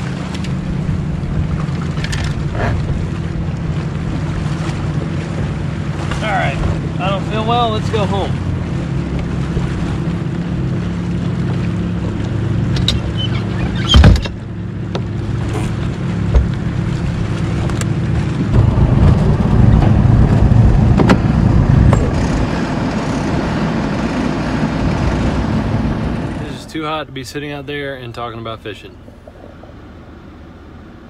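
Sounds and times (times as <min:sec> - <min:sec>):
outboard engine running: 0:00.0 - 0:31.0.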